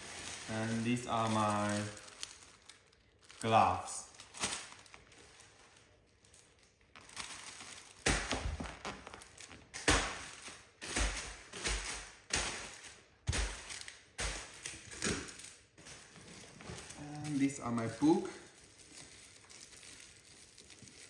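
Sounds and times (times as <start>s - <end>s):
packaging rustling: 0.0s - 21.0s.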